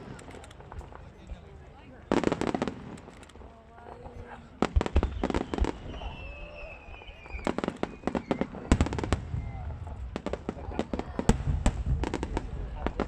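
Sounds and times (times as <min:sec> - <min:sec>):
fireworks crackling bangs: 0:00.0 - 0:03.4, 0:04.2 - 0:13.0.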